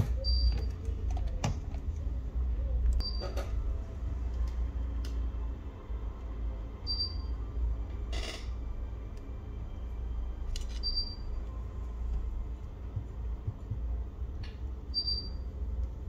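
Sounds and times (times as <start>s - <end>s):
steady low rumble: 0.9s - 16.0s.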